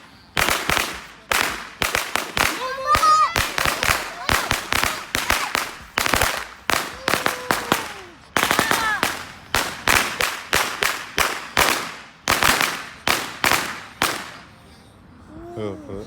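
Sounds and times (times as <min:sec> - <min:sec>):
firecrackers banging: 0:00.0 - 0:14.6.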